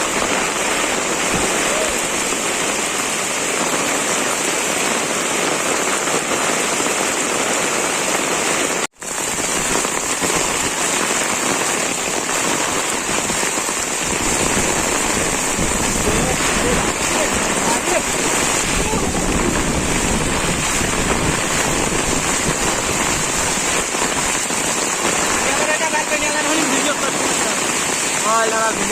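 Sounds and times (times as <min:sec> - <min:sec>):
rain falling on surfaces: 0:00.0 - 0:28.9.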